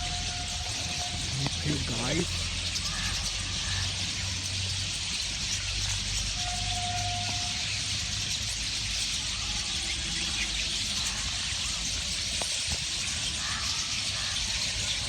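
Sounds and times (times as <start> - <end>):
flock of small birds chirping: 0.0 - 15.0.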